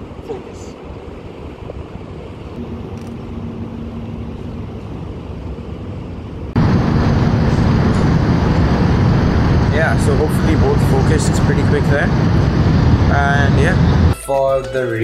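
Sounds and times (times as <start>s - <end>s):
faint low hum: 0.0s - 14.2s
outdoor background rumble: 0.0s - 14.2s.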